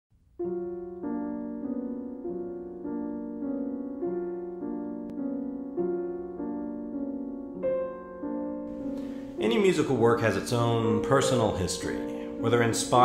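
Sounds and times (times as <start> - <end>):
piano chords: 0.2 - 13.0.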